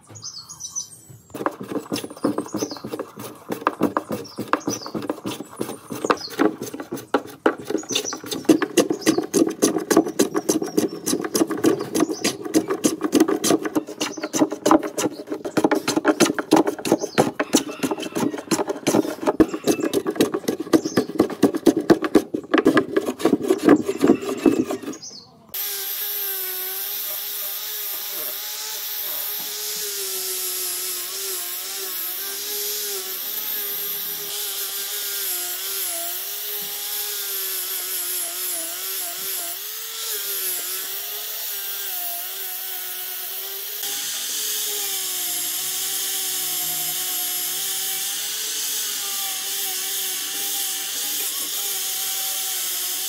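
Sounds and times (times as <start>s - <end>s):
hand plane shaving wood: 1.3s - 25.1s, 26.8s - 53.0s
angle grinder sanding wood: 1.3s - 53.0s.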